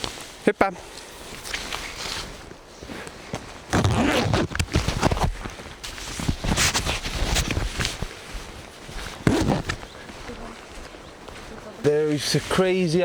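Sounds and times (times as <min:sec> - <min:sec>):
footsteps on a trail: 0:00.0 - 0:13.0.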